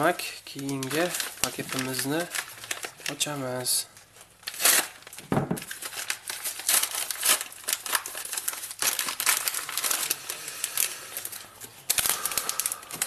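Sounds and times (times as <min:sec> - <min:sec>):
plastic bag crinkling: 0:00.0 - 0:13.0
paper envelope tearing: 0:00.7 - 0:03.3, 0:04.4 - 0:13.0.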